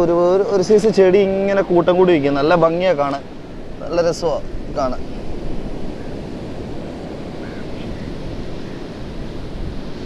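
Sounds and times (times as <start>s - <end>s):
sea surf washing on beach: 0.0s - 10.0s
wind buffeting microphone: 0.0s - 10.0s.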